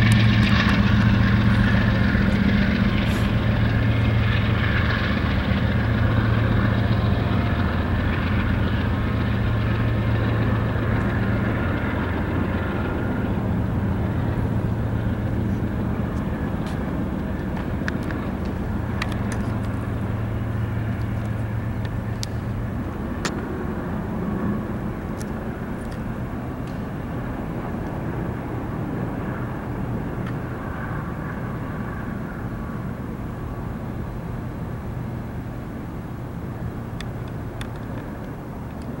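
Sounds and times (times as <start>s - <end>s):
locomotive engine drone: 0.0s - 39.0s.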